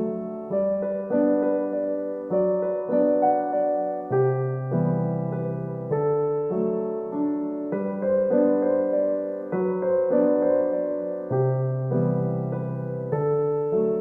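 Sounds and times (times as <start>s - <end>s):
gentle solo piano piece: 0.0s - 14.0s.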